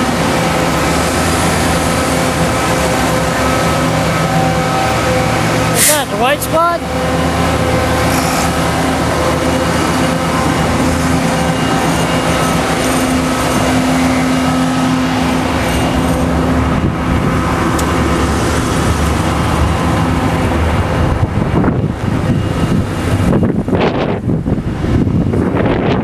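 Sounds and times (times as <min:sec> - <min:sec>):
cars passing: 0:00.0 - 0:25.8
large engine hum: 0:00.0 - 0:26.0.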